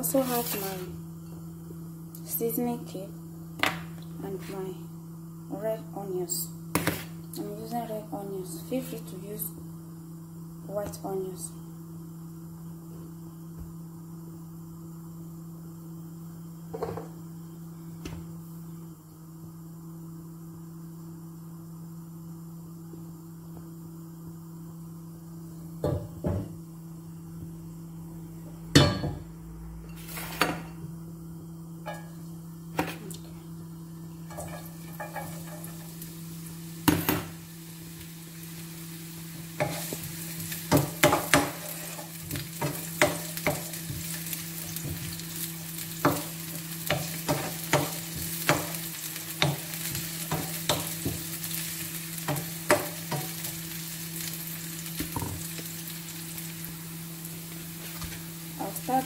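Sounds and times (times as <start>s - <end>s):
onions sizzling in oil: 0.0s - 59.0s
steady low hum: 0.0s - 59.0s.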